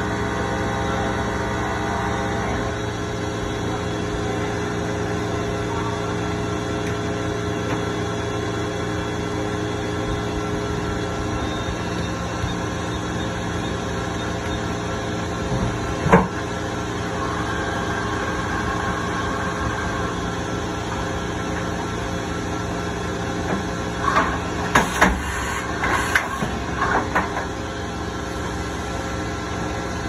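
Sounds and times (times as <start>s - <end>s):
machining center humming: 0.0s - 30.0s.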